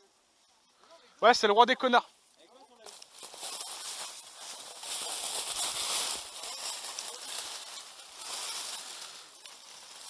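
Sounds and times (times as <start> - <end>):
rustling of leaves and clothing: 0.0 - 10.0.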